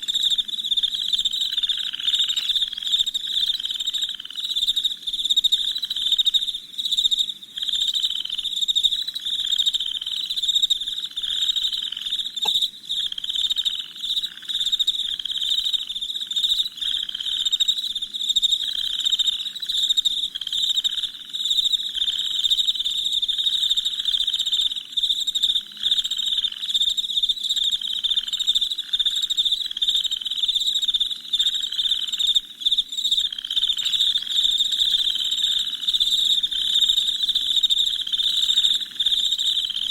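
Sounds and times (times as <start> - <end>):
crickets trilling: 0.0 - 39.9
low pulsing insect call: 0.0 - 39.9.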